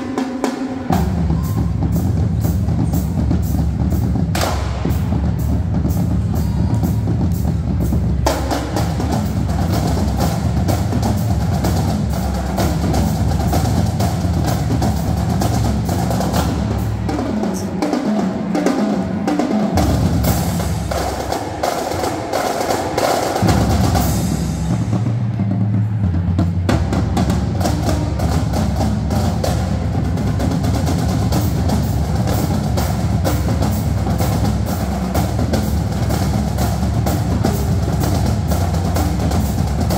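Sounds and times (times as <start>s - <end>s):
marching bass drums: 0.0s - 39.9s
snare drums: 0.0s - 39.9s
tenor drums: 0.0s - 39.9s.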